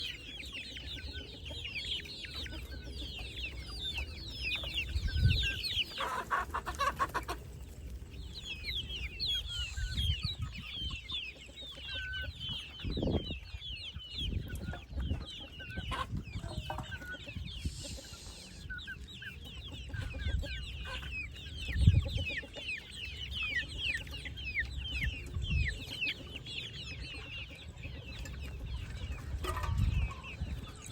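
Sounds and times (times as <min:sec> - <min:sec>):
chickens cheeping and clucking: 0:00.0 - 0:30.9.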